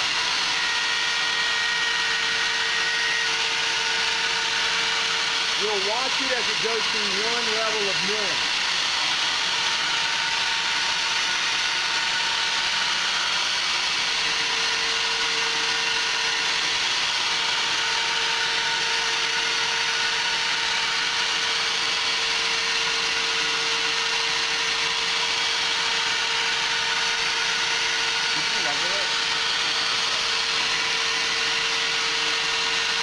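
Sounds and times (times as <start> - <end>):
mill spindle cutting wood: 0.0 - 33.0.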